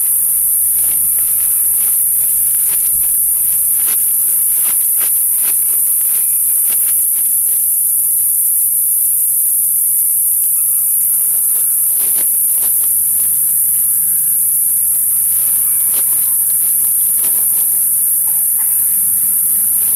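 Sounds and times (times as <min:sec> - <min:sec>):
plastic sack rustling: 0:00.0 - 0:08.0, 0:10.4 - 0:19.9
loud high-pitched insect drone: 0:00.0 - 0:19.9.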